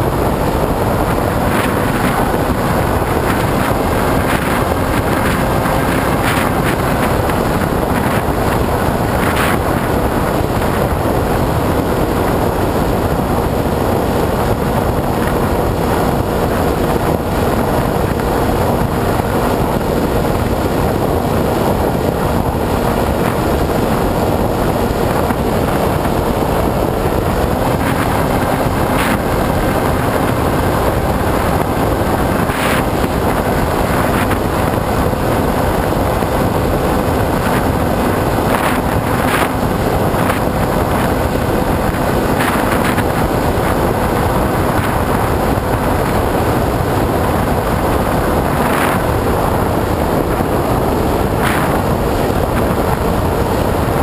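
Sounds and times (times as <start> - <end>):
electric motor and propeller hum: 0.0 - 54.0
wind rushing over microphone: 0.0 - 54.0.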